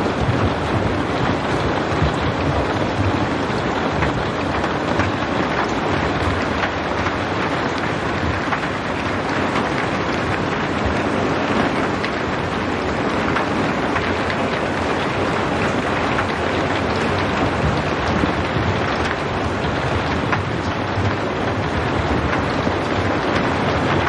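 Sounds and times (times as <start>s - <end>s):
raindrop hits: 0.0s - 24.0s
steady rain hissing: 0.0s - 24.0s.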